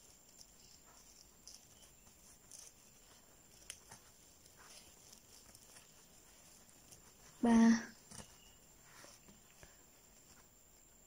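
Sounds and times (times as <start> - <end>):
yarn rustling on crochet hook: 0.0 - 11.0.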